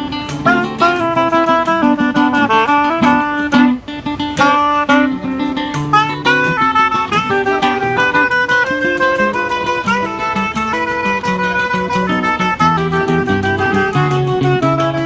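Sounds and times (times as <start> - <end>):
acoustic guitar accompaniment: 0.0 - 15.0
clarinet melody: 0.0 - 15.0
pandeiro beat: 0.0 - 15.0.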